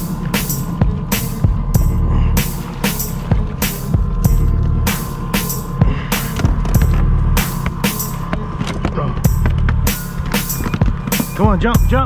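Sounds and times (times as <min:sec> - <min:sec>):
electronic hip-hop background music: 0:00.0 - 0:12.0.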